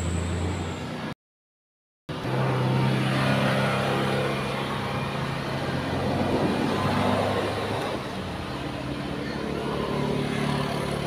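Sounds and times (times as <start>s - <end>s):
tyre and road noise: 0.0s - 1.2s, 2.1s - 11.0s.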